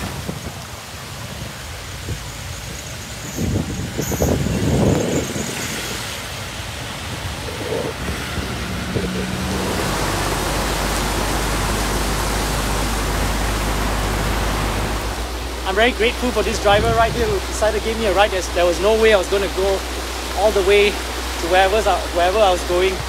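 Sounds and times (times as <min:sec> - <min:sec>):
road noise on wet road: 0:00.0 - 0:23.0
vehicle engine rumble: 0:00.0 - 0:23.0
water rushing: 0:00.0 - 0:23.0
wind: 0:00.0 - 0:23.0.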